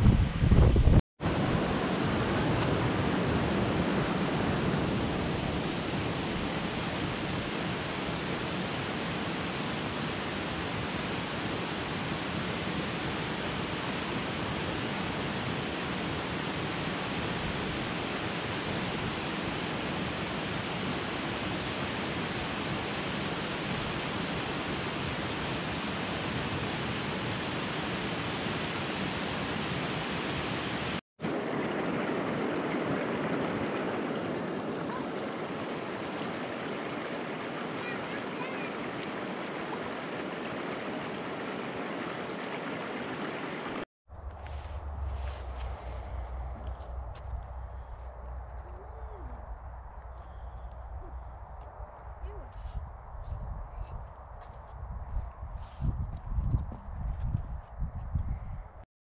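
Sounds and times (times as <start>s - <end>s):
steady rushing noise: 0.0s - 52.2s.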